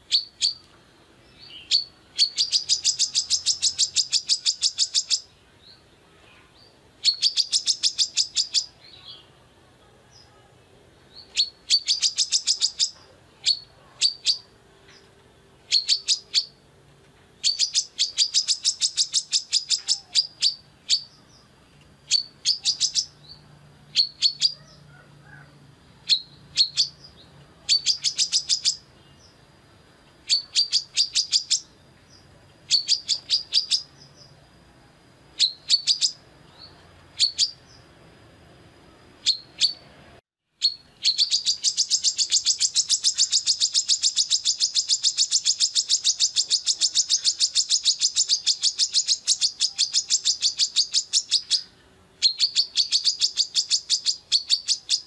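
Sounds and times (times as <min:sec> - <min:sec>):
bird calling sharp high chips: 0:00.0 - 0:00.7, 0:01.3 - 0:09.3, 0:11.2 - 0:16.7, 0:17.3 - 0:29.4, 0:30.2 - 0:34.3, 0:35.4 - 0:37.8, 0:39.2 - 0:39.9, 0:40.6 - 0:55.0.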